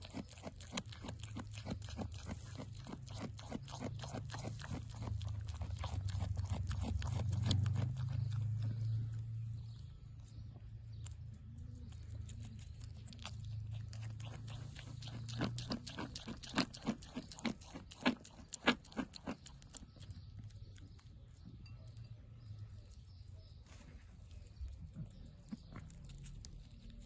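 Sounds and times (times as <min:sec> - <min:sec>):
goat crunching apple: 0:00.0 - 0:09.5, 0:10.5 - 0:21.5, 0:23.8 - 0:27.0.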